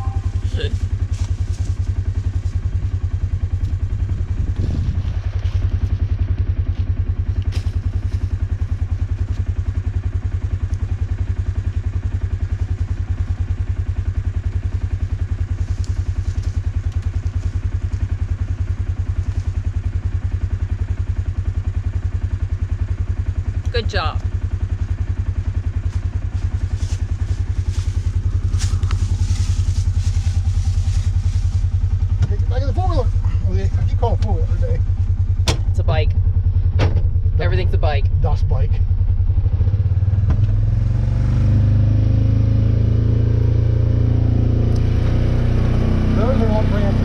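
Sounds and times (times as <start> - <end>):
atv engine idling: 0.0 - 47.0.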